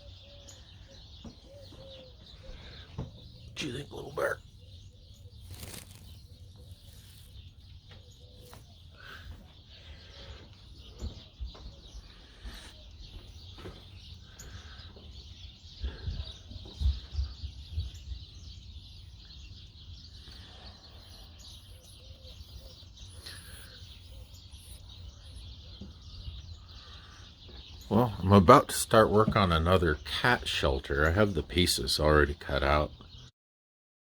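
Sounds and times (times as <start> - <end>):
faint bird chirps: 0.0 - 29.6.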